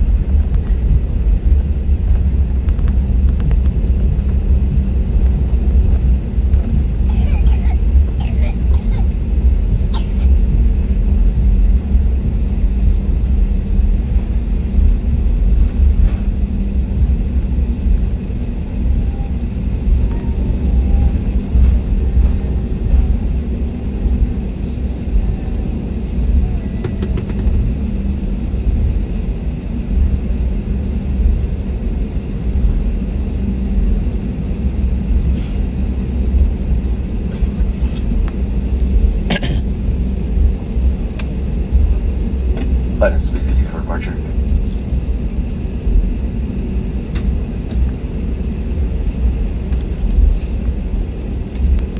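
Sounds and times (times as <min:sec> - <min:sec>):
jet engines rumbling in cabin: 0:00.0 - 0:51.9.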